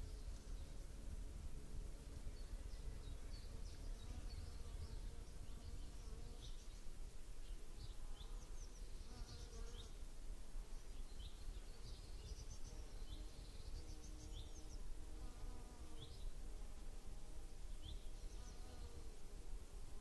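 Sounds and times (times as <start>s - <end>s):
small birds chirping: 0.0s - 1.0s, 2.0s - 10.0s, 10.7s - 16.4s, 17.5s - 19.2s
flying insects buzzing: 0.0s - 20.0s.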